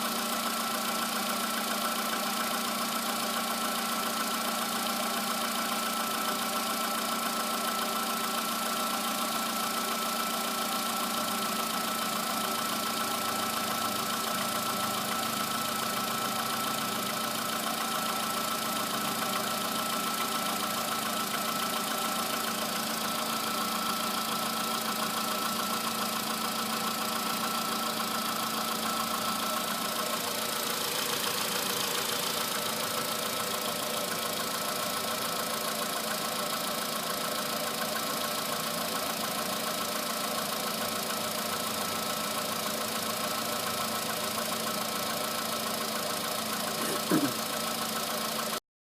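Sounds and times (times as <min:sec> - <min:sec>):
petrol engine idling with knock: 0:02.5 - 0:48.6.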